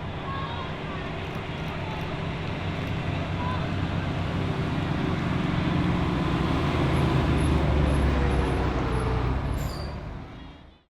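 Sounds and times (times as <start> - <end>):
vehicle engine rumbling: 0.0 - 10.4.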